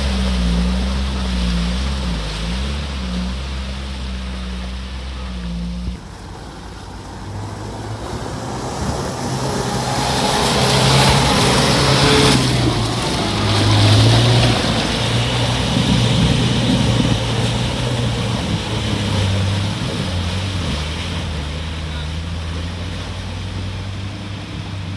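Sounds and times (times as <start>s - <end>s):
off-road engine running under load: 0.0s - 24.9s
loud rushing noise: 3.6s - 24.9s.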